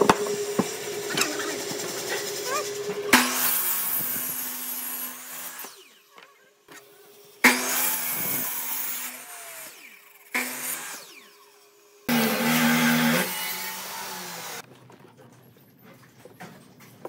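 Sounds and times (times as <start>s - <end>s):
power tool cutting wood: 0.0s - 14.6s.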